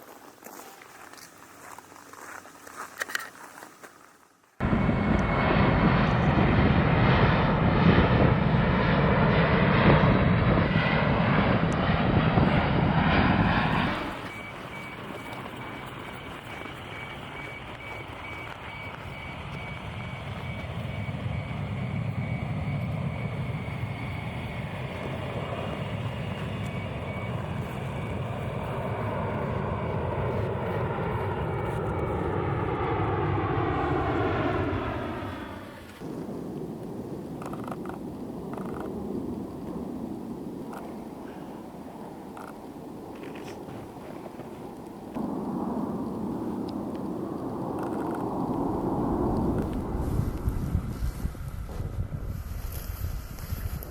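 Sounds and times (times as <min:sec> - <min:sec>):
engine drone with high whine: 0:04.6 - 0:39.8, 0:44.8 - 0:53.9
loud jet engine noise: 0:04.6 - 0:53.9.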